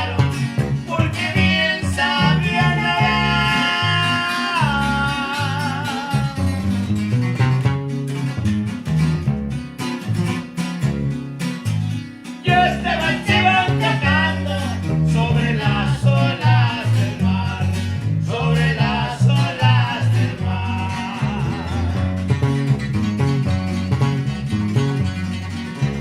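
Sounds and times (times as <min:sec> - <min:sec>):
bass and strummed guitar: 0:00.0 - 0:26.0.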